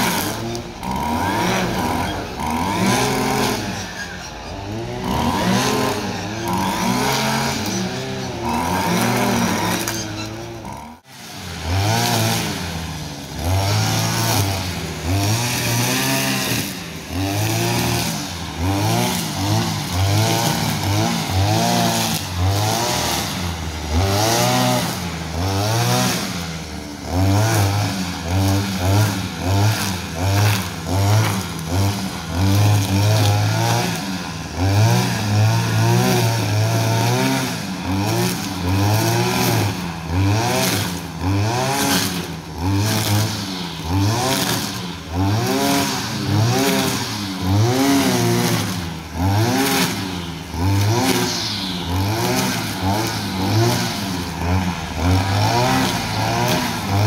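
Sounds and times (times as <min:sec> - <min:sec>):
brushcutter engine revving: 0:00.0 - 0:57.0.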